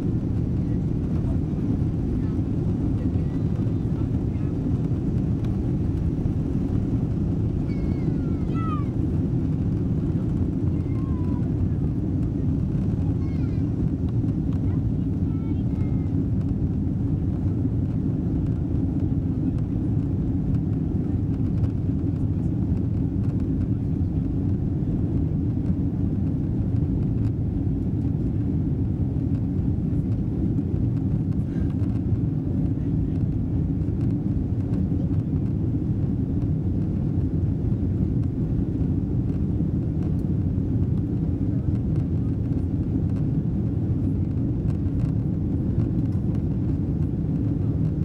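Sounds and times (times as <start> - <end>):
airplane cabin engine and airflow noise: 0.0 - 48.0.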